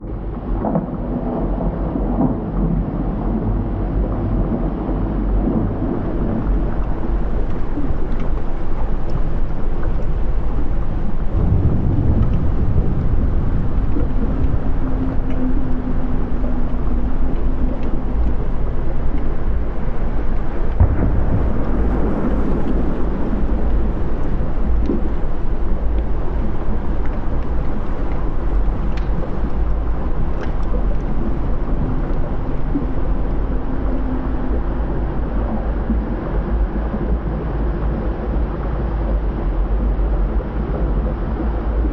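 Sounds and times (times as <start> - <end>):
volcanic eruption deep rumble: 0.0 - 41.9
crackles and pops: 0.2 - 41.9.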